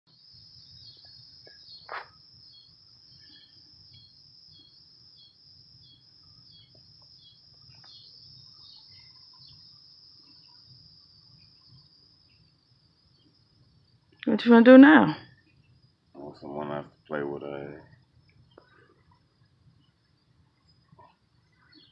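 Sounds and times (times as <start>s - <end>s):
insect chorus chirping: 0.1s - 21.9s.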